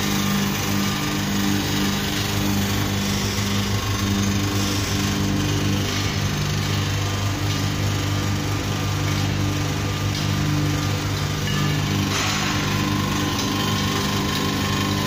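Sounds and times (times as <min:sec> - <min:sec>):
oil press motor humming: 0:00.0 - 0:15.0.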